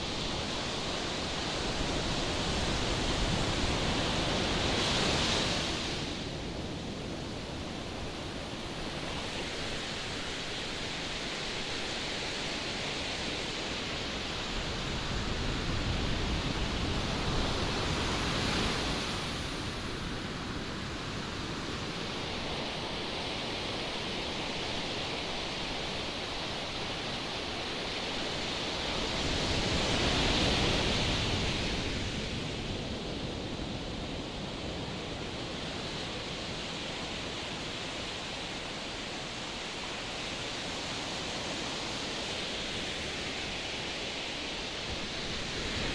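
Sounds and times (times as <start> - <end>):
sea surf: 0.0 - 45.9
strong wind: 0.0 - 45.9.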